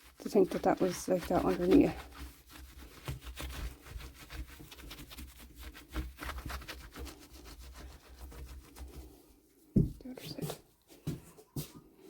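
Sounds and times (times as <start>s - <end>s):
cloth scrubbing a door: 0.0s - 10.6s.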